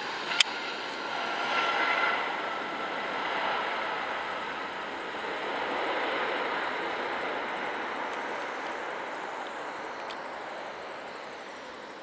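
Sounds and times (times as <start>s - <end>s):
faint high whine: 0.0s - 12.0s
jet engine rushing noise: 0.0s - 12.0s.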